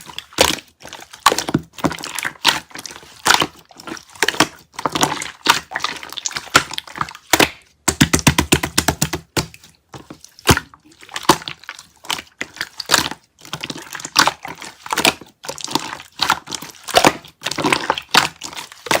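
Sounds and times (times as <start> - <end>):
slime squelching: 0.0 - 19.0.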